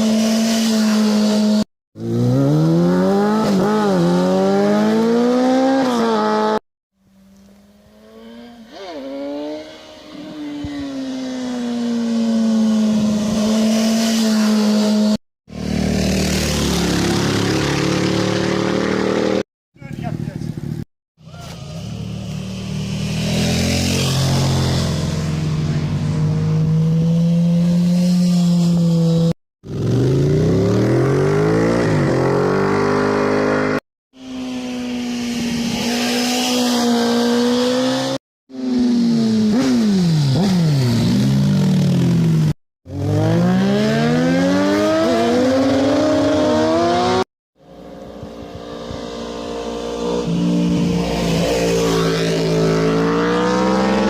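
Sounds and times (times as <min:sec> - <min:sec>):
motorcycle engines passing by: 0:07.4 - 0:54.0.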